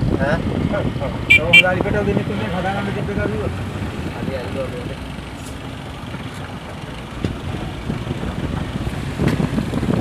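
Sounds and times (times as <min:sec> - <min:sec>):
motorcycles: 0:00.0 - 0:10.0
traffic engines rumbling: 0:00.0 - 0:10.0.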